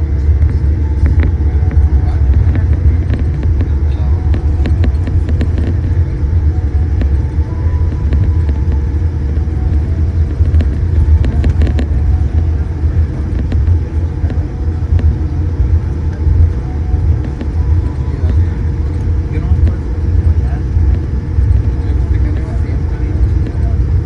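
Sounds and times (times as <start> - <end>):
aircraft cabin rumble: 0.0 - 24.0
faint steady hum: 0.0 - 24.0.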